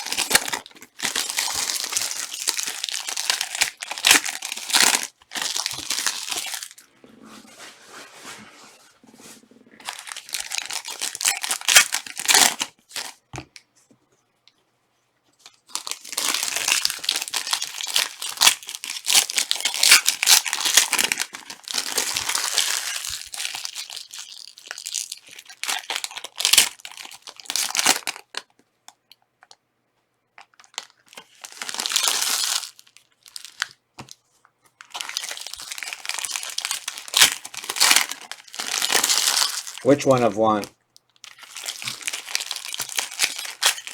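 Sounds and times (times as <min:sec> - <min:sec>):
plastic wrappers crinkling and tearing: 0:00.0 - 0:06.9, 0:09.8 - 0:13.2, 0:15.4 - 0:28.5, 0:30.4 - 0:43.9.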